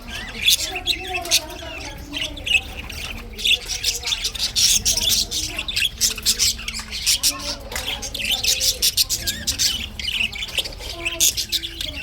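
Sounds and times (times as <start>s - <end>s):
budgies chirping and chattering: 0.0s - 12.0s.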